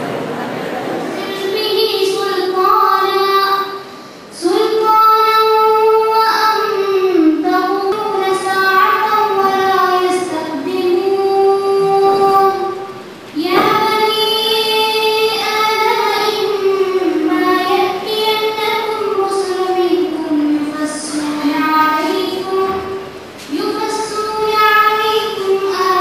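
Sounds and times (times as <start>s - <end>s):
young woman singing: 1.1s - 26.0s.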